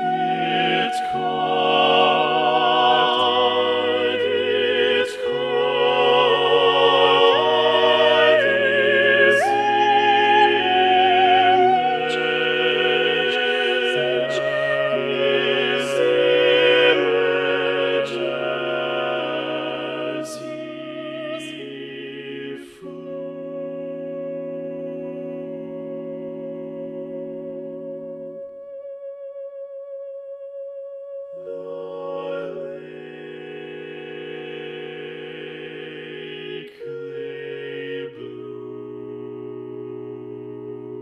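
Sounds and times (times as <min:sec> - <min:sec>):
male choral singing: 0:00.0 - 0:25.7, 0:31.5 - 0:39.0.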